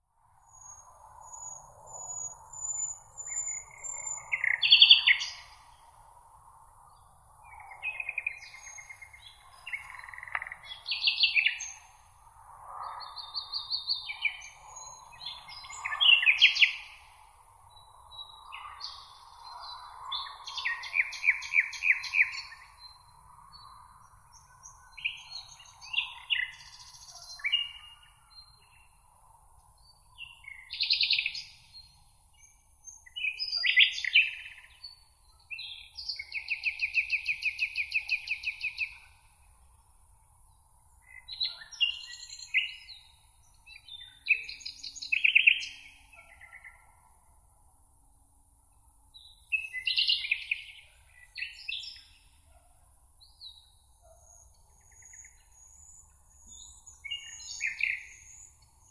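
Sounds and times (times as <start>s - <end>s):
songbirds singing: 0.3s - 58.9s.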